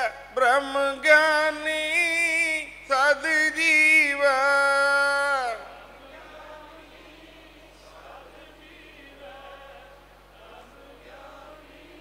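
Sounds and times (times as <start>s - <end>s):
congregation chanting in unison: 0.0s - 12.0s
lead singer's voice: 0.0s - 12.0s.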